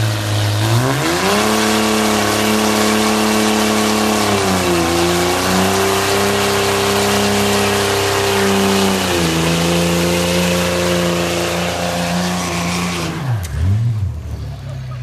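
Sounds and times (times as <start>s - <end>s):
diesel truck engine revving: 0.0s - 15.0s.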